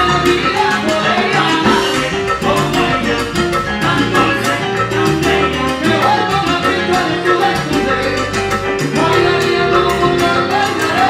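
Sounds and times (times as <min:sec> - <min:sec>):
salsa band playing: 0:00.0 - 0:11.0.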